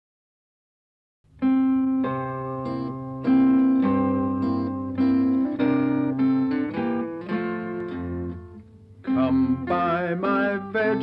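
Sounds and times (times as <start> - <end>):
plucked guitar melody: 1.3 - 11.0.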